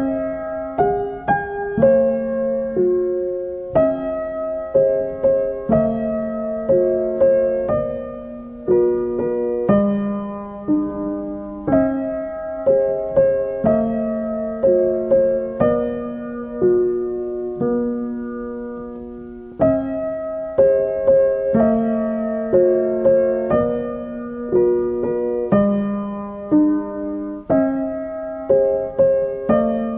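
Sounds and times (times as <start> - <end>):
slow gentle piano melody: 0.0 - 29.9.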